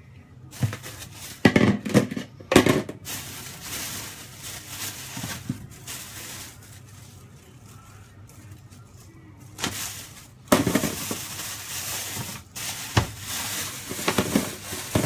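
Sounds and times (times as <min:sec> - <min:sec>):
plastic bag crinkling: 0:00.5 - 0:15.0.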